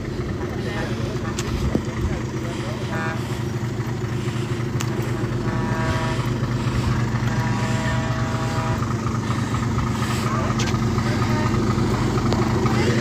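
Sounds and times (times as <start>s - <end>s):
higher droning note: 0.0s - 13.0s
truck engine idling: 0.0s - 13.0s.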